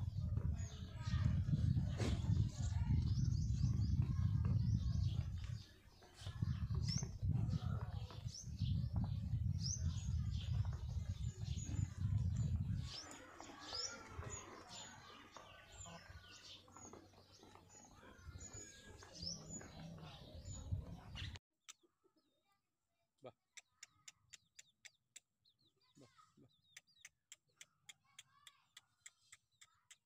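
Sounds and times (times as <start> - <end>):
small birds chirping: 0.0 - 22.5, 23.5 - 30.0.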